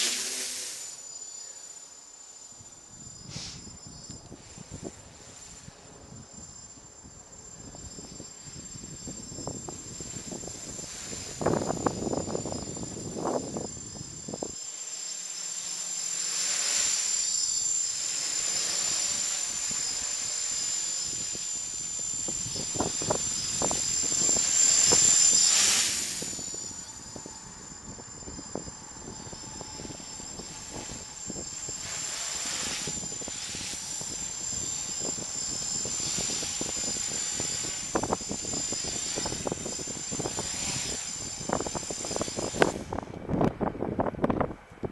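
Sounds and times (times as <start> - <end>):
quadcopter motors whining: 0.0 - 44.9
wind gusts on microphone: 2.6 - 14.6, 18.4 - 44.9.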